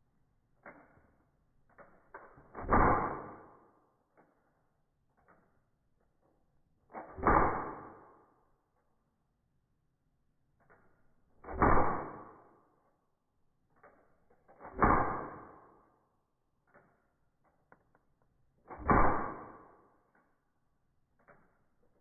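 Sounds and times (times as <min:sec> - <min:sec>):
slowed bb gun shots: 0:00.5 - 0:09.0, 0:10.5 - 0:22.0.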